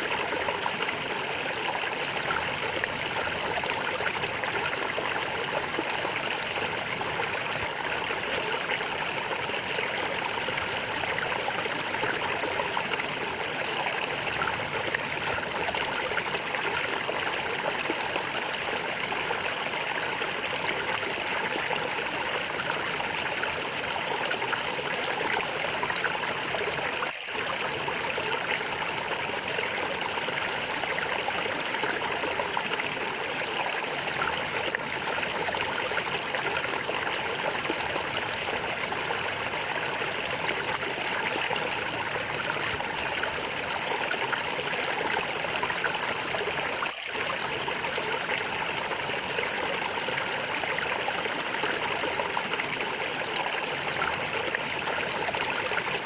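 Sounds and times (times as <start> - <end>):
stream flowing and gurgling: 0.0 - 56.0.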